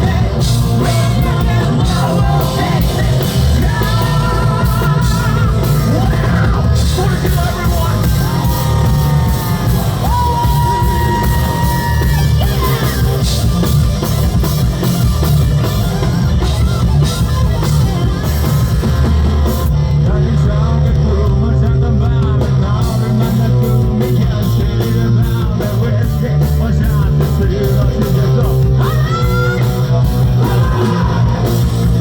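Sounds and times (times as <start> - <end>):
drums: 0.0 - 32.0
heavy bass: 0.0 - 32.0
rock band playing live: 0.0 - 32.0.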